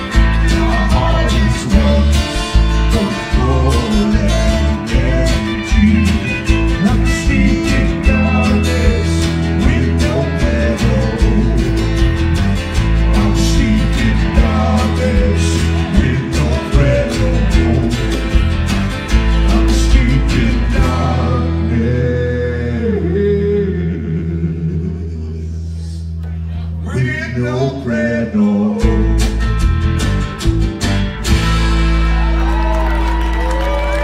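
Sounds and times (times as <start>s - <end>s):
person singing: 0.0s - 11.9s, 13.1s - 18.4s, 19.4s - 29.5s
live country band playing: 0.0s - 24.4s, 26.4s - 34.0s.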